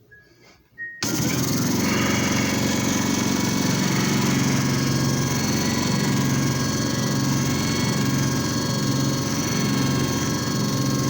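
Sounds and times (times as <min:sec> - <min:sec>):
machine motor hum: 0:01.0 - 0:11.0.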